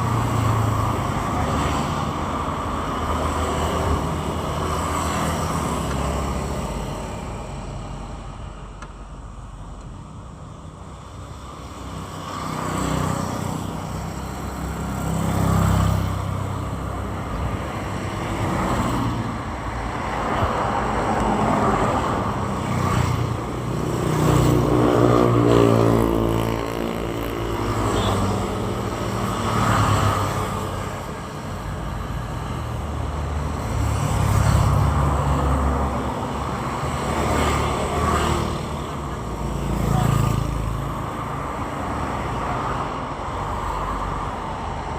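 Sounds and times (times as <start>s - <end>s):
motorcycles passing: 0.0s - 8.2s, 11.3s - 44.9s
cars passing: 0.0s - 44.9s.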